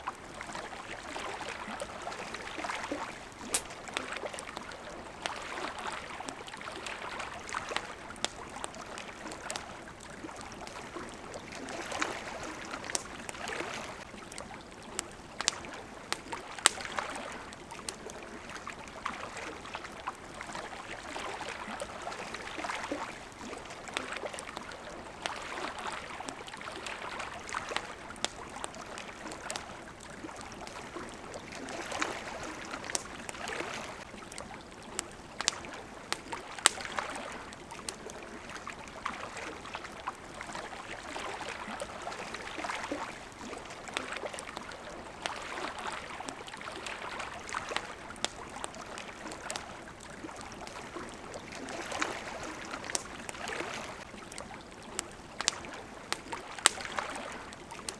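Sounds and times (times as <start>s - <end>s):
campfire crackling: 0.0s - 57.9s
water lapping against riverbank: 0.0s - 57.9s.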